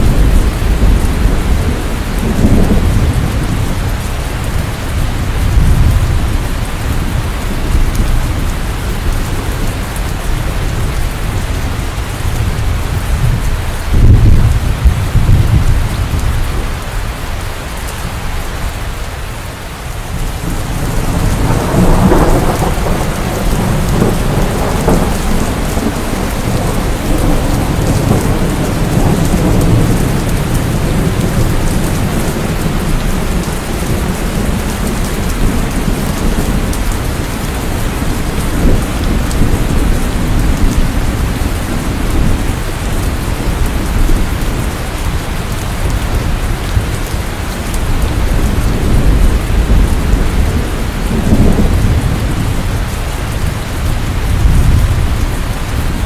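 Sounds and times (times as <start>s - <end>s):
low rolling thunder: 0.0s - 19.1s, 20.0s - 56.0s
heavy rain: 0.0s - 56.0s.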